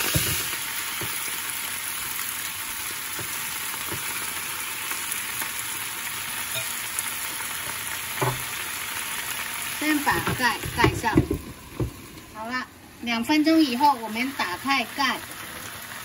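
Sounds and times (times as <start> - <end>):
greens sizzling in a frying pan: 0.0 - 16.0.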